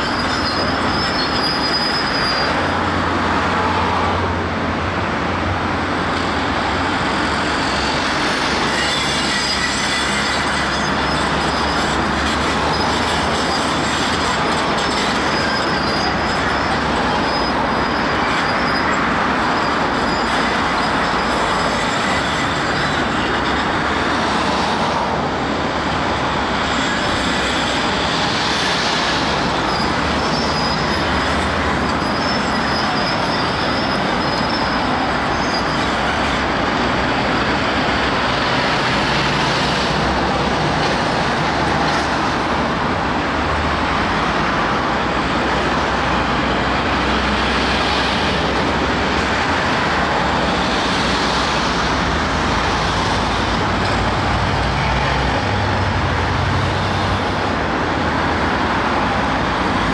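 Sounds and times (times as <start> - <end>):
cars passing on busy road: 0.0 - 59.9
excavator diesel engine: 0.0 - 59.9.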